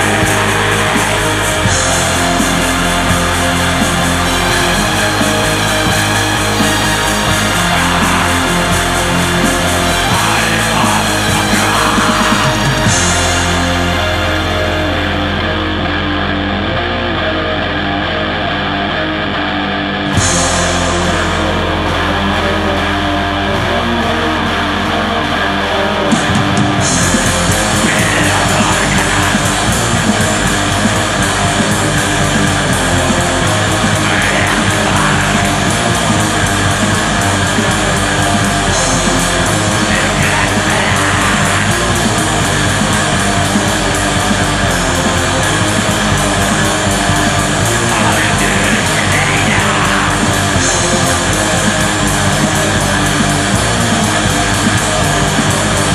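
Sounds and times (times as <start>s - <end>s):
distorted electric guitar: 0.0s - 55.9s
heavy metal music: 0.0s - 55.9s.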